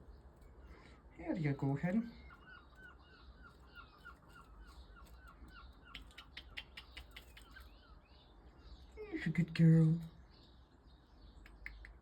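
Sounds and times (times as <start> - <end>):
small bird calling: 0.0 - 12.0.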